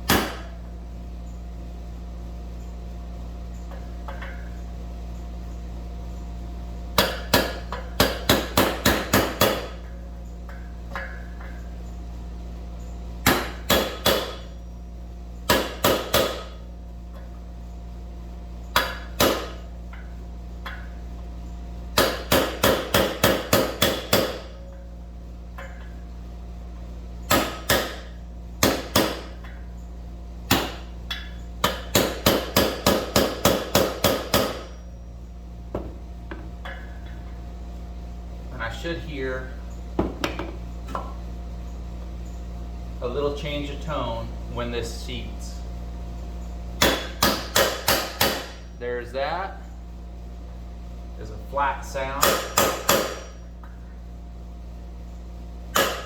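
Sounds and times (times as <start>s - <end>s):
air conditioner hum: 0.0s - 56.0s.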